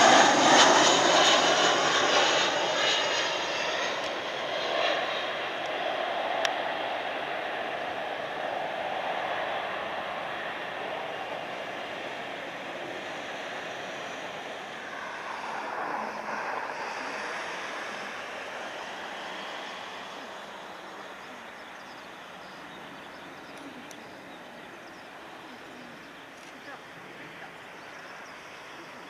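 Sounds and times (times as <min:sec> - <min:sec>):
jet engines rushing: 0:00.0 - 0:29.0.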